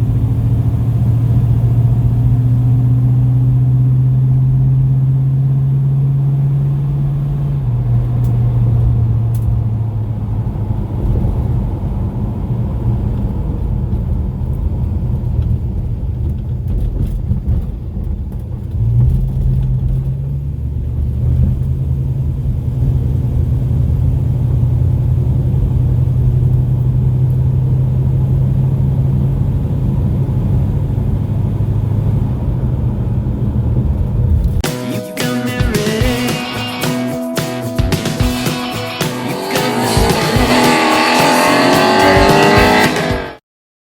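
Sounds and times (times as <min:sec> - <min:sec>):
car engine rumbling: 0:00.0 - 0:34.7, 0:37.2 - 0:43.3.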